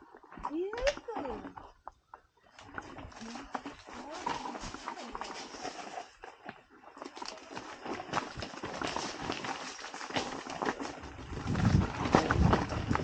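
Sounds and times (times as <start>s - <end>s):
bike rattling: 0.0s - 13.0s
tyres crunching over stones: 0.0s - 13.0s.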